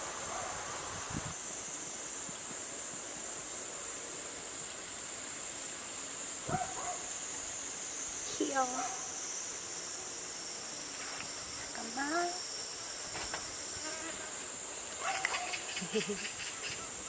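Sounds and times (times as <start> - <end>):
high-pitched insect buzz: 0.0 - 17.0.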